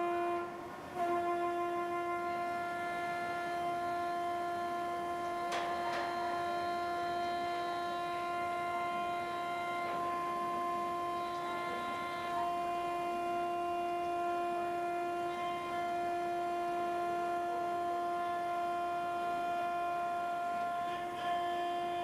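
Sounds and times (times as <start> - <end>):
steady humming drone: 0.0 - 22.0.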